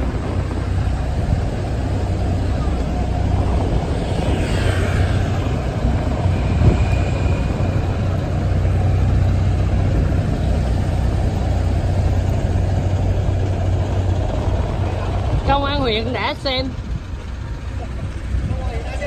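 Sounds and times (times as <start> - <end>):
diesel engines idling: 0.0 - 19.0.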